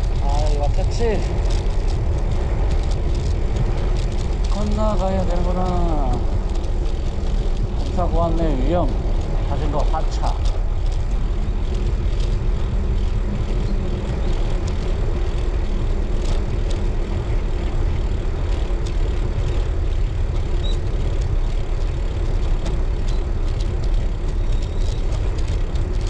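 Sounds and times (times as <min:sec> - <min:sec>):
faint clicks: 0:00.0 - 0:26.0
wind rumble on microphone: 0:00.0 - 0:26.0.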